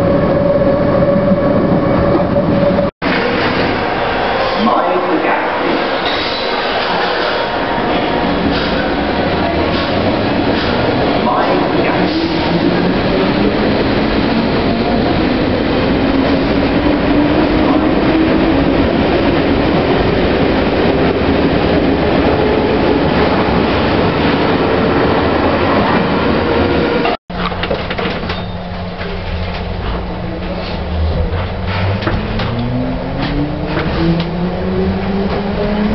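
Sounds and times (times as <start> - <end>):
rising train whine: 0.0 - 27.2, 28.0 - 35.9
train rumbling past: 0.0 - 27.5, 28.3 - 35.9.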